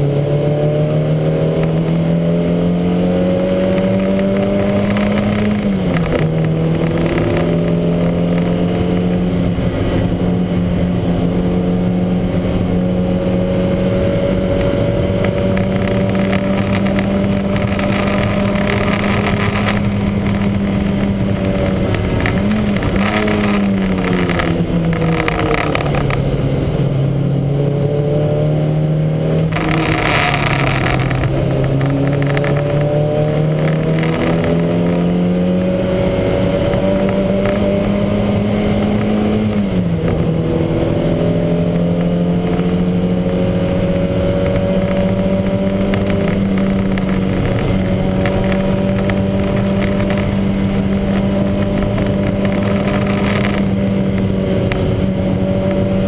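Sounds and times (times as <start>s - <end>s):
car engine racing with misfire: 0.0s - 56.0s.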